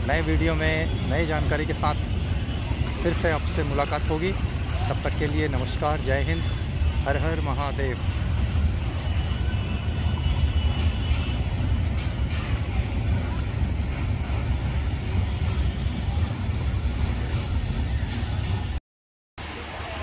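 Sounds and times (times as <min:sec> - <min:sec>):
low rumbling outdoor noise: 0:00.0 - 0:18.8.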